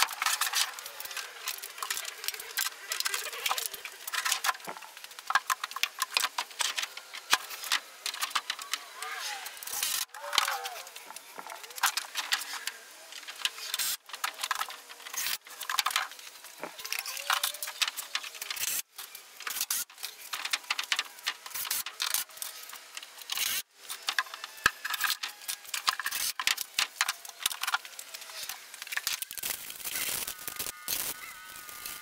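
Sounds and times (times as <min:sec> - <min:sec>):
tools and hardware clicking and rattling: 0:00.0 - 0:08.8, 0:09.5 - 0:32.0.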